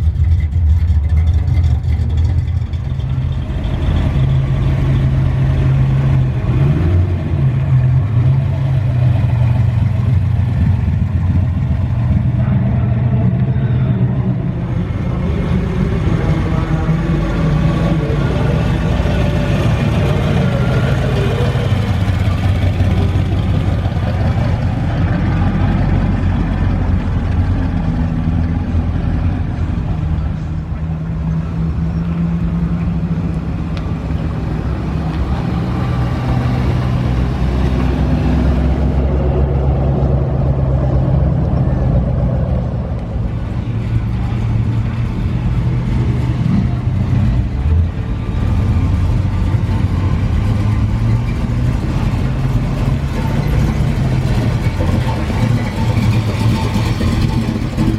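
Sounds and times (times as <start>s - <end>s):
cars driving past: 0.0s - 57.9s.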